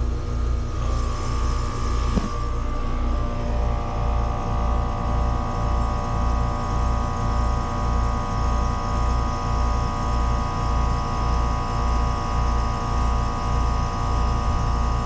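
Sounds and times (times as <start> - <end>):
heat pump unit humming: 0.0 - 15.0.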